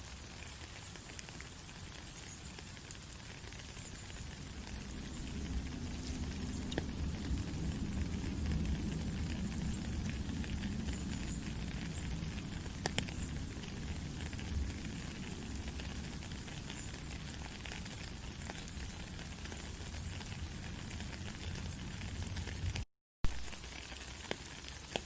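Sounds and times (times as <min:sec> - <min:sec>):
rain falling in forest: 0:00.0 - 0:25.0
water drips ticking: 0:00.1 - 0:22.7.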